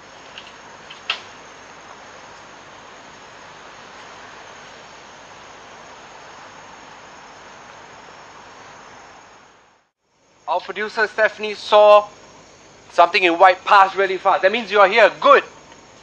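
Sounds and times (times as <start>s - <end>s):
crickets and insects chirping: 0.0s - 16.0s.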